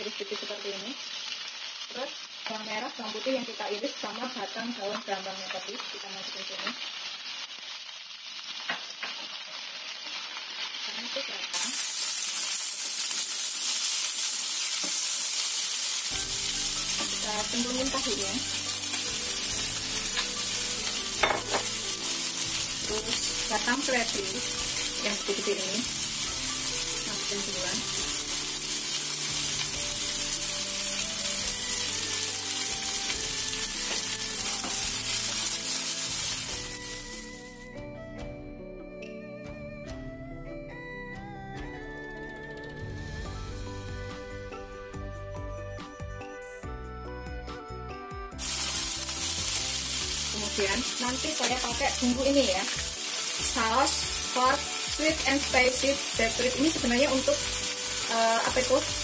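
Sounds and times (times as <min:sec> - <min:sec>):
food sizzling in hot oil: 0:00.0 - 0:37.8, 0:48.3 - 0:59.0.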